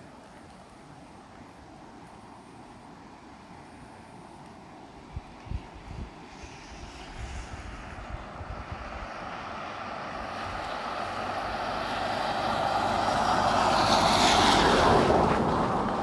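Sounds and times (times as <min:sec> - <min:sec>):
car tyres hissing on wet road: 0:00.0 - 0:16.0.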